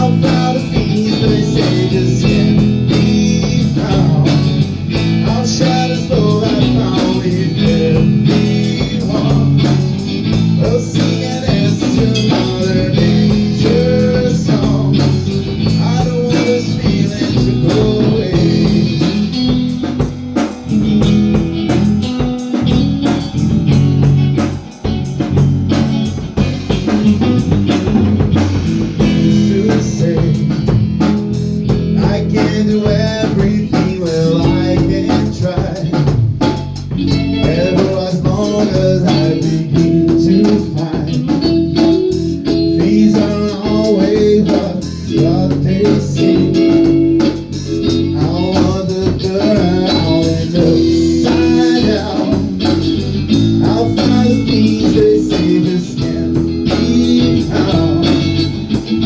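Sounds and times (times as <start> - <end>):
bass guitar: 0.0 - 59.0
drum kit: 0.0 - 59.0
guitar: 0.0 - 59.0.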